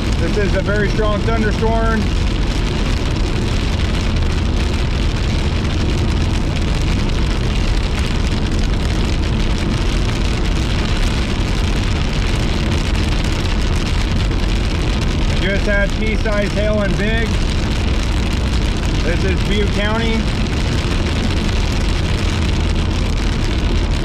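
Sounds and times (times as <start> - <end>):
rain and hail on car: 0.0 - 24.0
road and engine rumble: 0.0 - 24.0.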